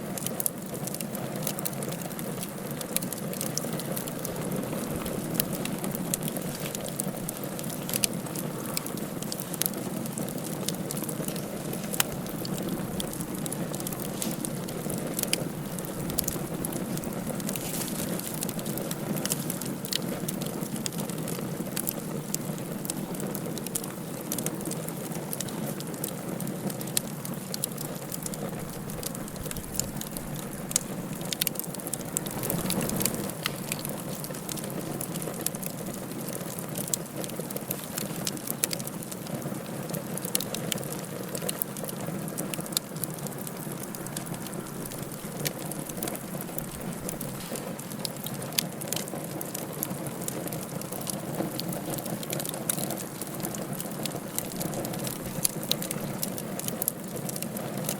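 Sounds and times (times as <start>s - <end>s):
fire crackles and pops: 0.0s - 57.9s
wood fire burning: 0.0s - 57.9s.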